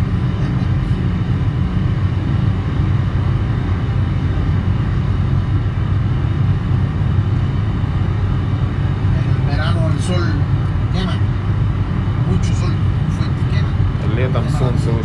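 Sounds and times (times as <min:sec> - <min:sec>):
car cabin road drone: 0:00.0 - 0:15.0.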